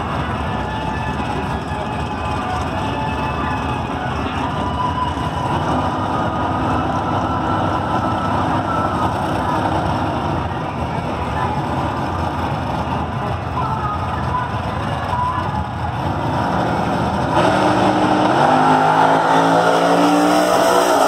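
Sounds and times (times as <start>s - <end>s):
racing cars idling: 0.0s - 21.0s.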